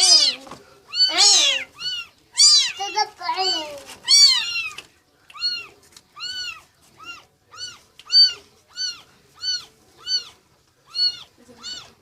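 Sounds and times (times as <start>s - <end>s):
kitten mewing: 0.0s - 2.9s, 4.0s - 12.0s.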